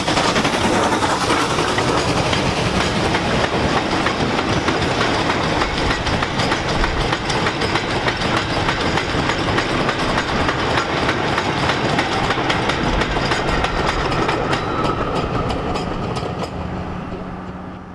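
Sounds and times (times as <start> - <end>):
train wheels clattering over rail joints: 0.0 - 17.7.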